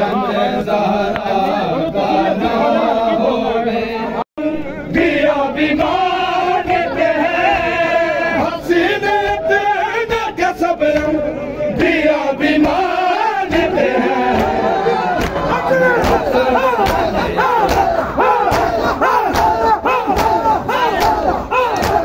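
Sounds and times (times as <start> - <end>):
crowd of men chanting: 0.0 - 22.0.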